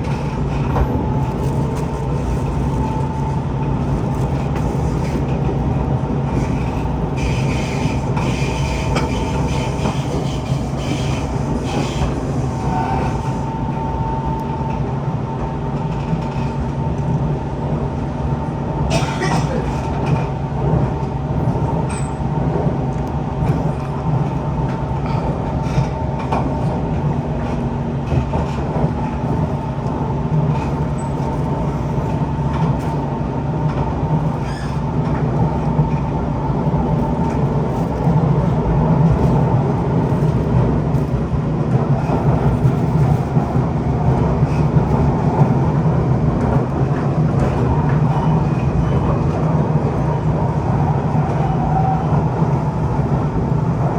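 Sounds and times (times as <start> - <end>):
metro train rumbling: 0.0 - 53.9.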